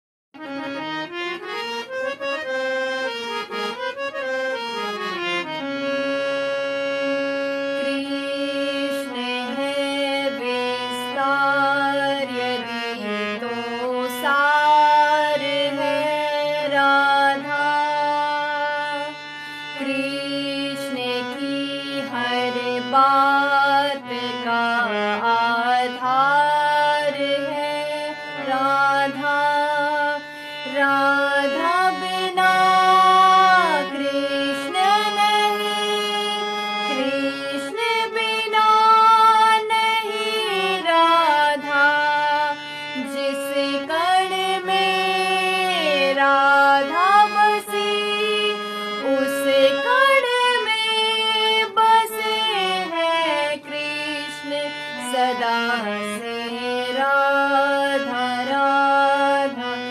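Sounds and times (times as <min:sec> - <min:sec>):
harmonium playing chords: 0:00.4 - 0:59.9
woman singing: 0:06.9 - 0:59.9.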